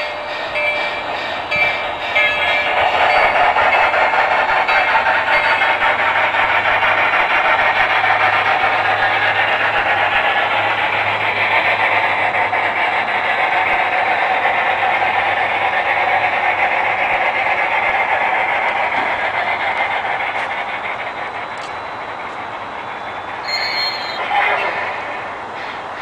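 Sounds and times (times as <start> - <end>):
model steam locomotive running: 0.0 - 26.0.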